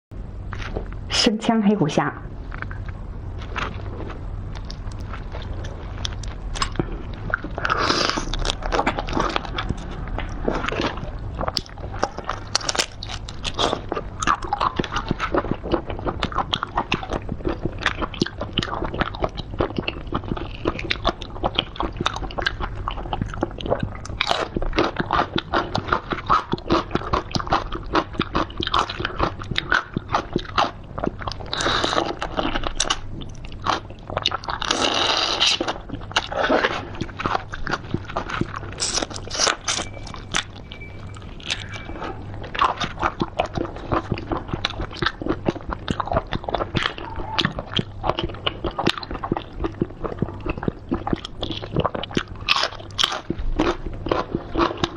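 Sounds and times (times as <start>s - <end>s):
person chewing crunchy shrimp: 2.5s - 54.9s.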